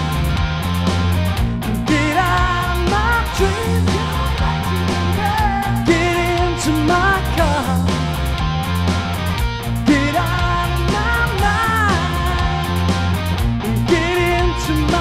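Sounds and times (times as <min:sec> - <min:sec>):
drum beat: 0:00.0 - 0:14.3
bass: 0:00.0 - 0:15.0
bending lead melody: 0:00.0 - 0:15.0.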